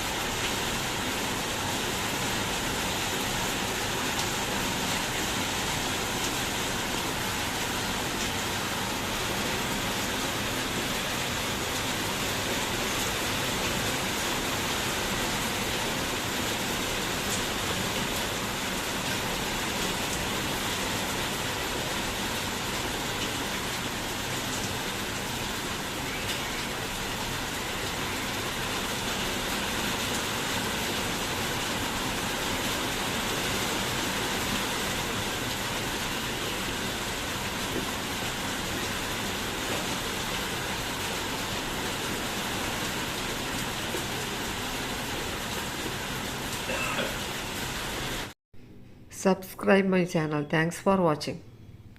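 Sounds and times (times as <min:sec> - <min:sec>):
rain falling steadily: 0:00.0 - 0:48.4.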